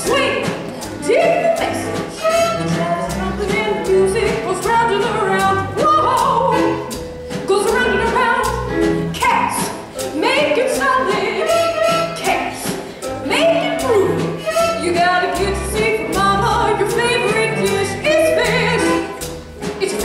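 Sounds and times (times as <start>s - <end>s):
swing band music: 0.0s - 20.0s.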